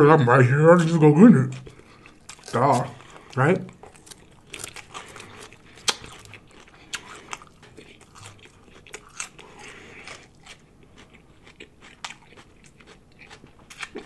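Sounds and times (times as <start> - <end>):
chewing crisp lettuce: 0.3 - 14.0.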